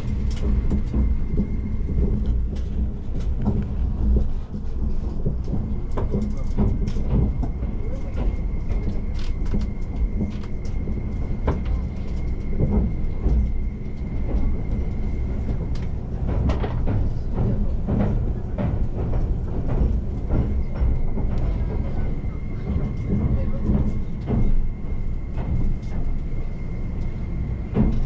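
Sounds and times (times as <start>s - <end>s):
train cabin rumble: 0.0s - 28.0s.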